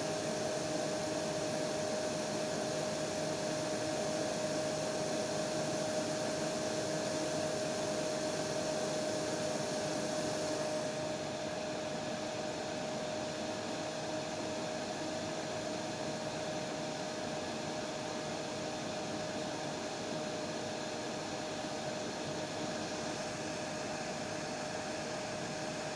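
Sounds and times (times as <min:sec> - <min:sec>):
hair dryer running: 0:00.0 - 0:25.9.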